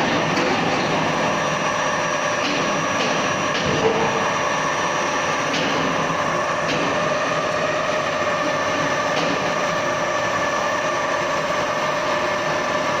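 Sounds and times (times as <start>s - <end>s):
lathe humming and whining: 0.0s - 13.0s.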